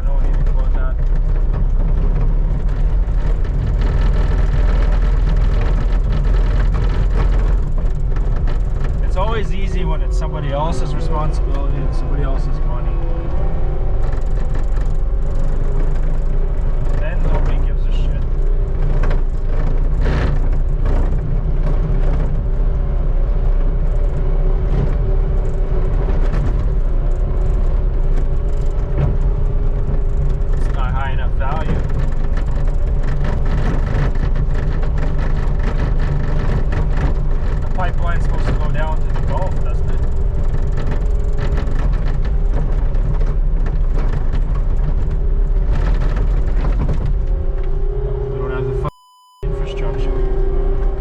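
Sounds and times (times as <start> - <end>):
skid steer engine rumbling: 0.0 - 51.0.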